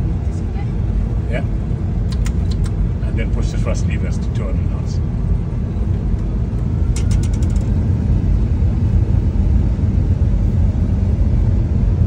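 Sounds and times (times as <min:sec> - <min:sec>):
aircraft cockpit engine rumble: 0:00.0 - 0:12.0.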